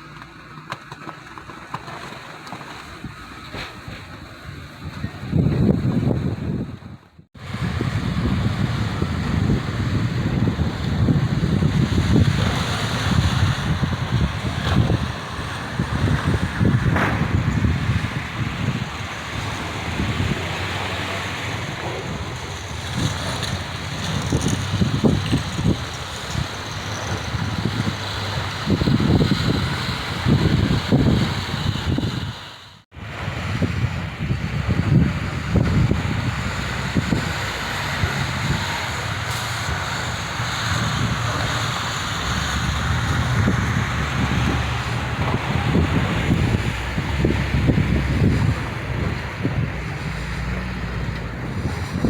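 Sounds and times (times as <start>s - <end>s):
wind buffeting microphone: 2.7s - 52.0s.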